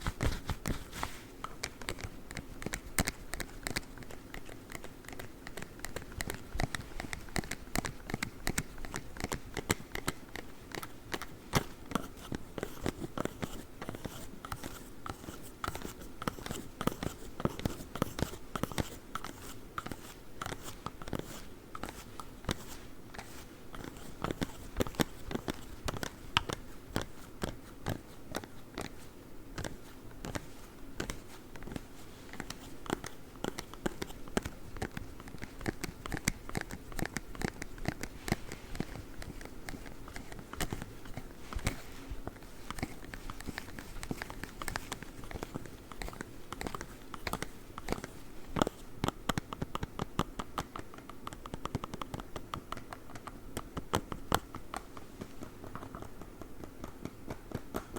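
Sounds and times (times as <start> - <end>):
hard fingertips tapping and scratching: 0.0 - 57.9.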